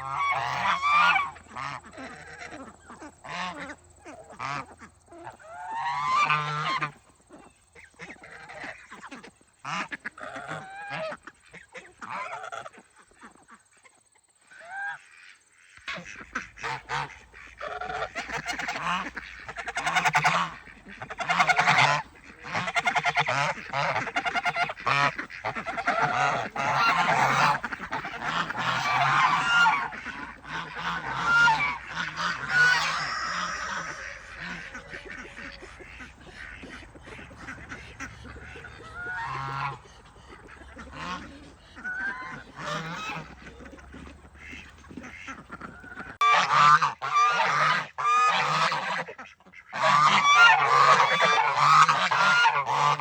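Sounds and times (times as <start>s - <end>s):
geese honking: 0.0s - 13.9s, 14.5s - 53.0s.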